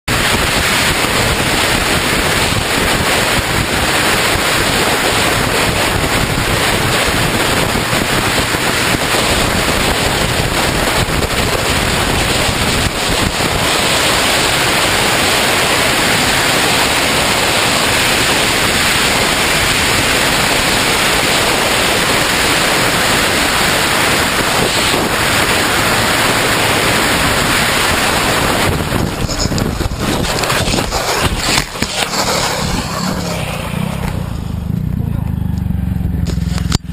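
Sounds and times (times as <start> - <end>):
wind rushing over microphone: 0.1 - 36.9.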